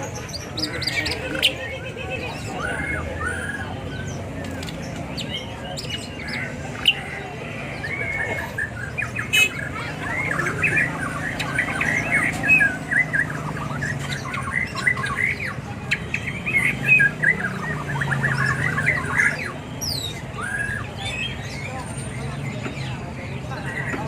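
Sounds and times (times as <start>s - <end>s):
caged birds chirping and squawking: 0.0s - 24.0s.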